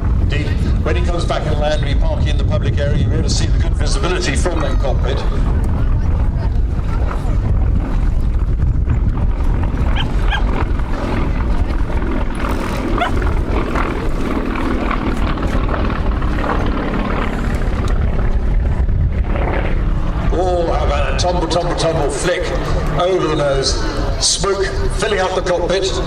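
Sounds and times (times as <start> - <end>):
aircraft radial engine rumbling: 0.0 - 26.0.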